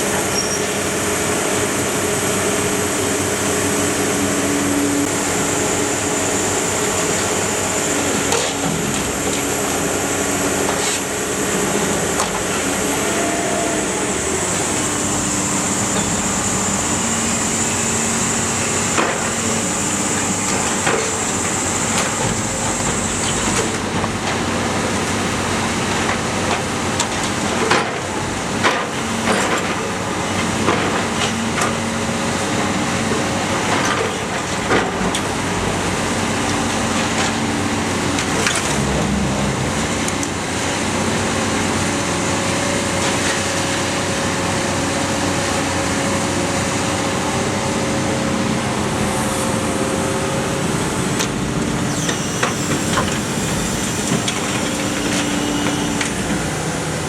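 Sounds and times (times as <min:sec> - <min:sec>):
loud bangs of scrap compacting: 0:00.0 - 0:32.0, 0:32.6 - 0:57.0
baler engine and hydraulics drone: 0:00.0 - 0:57.0.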